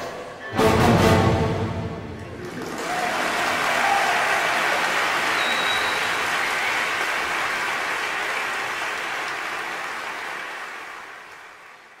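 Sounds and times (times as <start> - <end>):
audience applause: 2.2 - 12.0.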